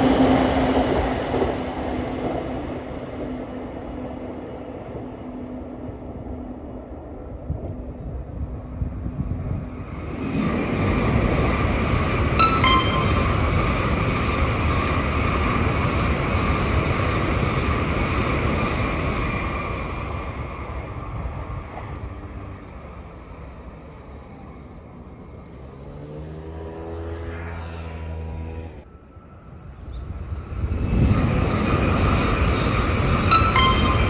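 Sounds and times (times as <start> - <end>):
passing train noise: 0.0 - 34.0.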